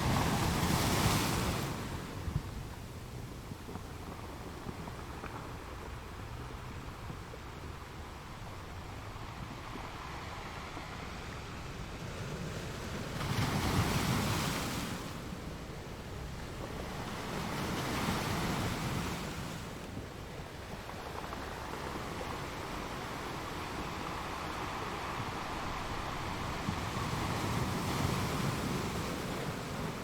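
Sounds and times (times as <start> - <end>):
waves washing ashore: 0.0 - 30.0.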